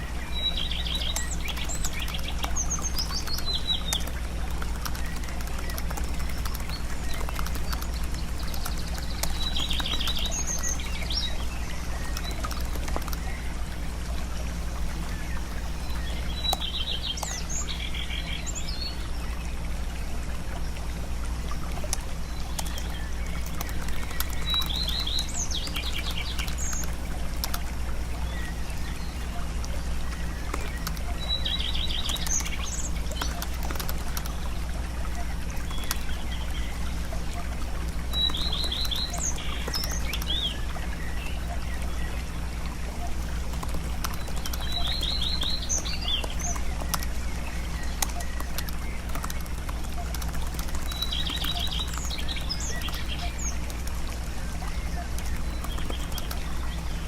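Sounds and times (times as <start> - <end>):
bird chirping trill: 0.0 - 13.5, 22.2 - 27.6, 28.2 - 42.3, 42.9 - 57.0
steady low hum: 0.0 - 57.0.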